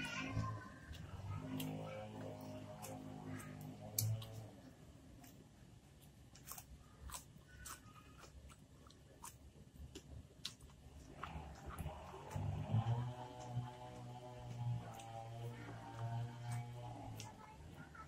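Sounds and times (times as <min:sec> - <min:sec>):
person chewing: 0:00.1 - 0:18.0.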